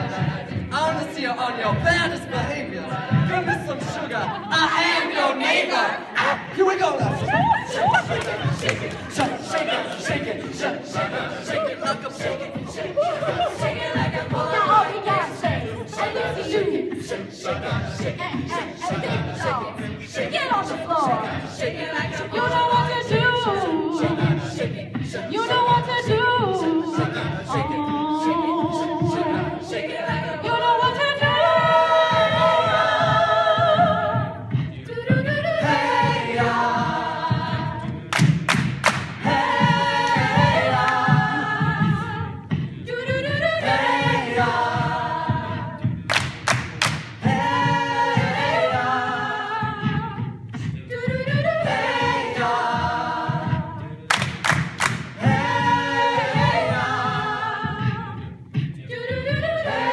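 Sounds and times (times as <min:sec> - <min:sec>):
a cappella group singing in harmony: 0:00.0 - 0:59.9.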